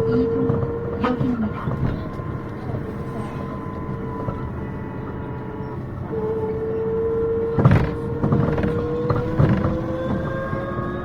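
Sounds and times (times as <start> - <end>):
bus running with rising whine: 0.0 - 11.0.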